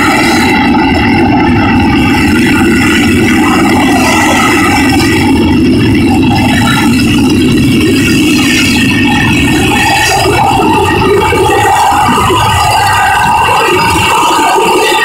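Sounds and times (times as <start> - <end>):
jet engine roaring and whining: 0.0 - 15.0.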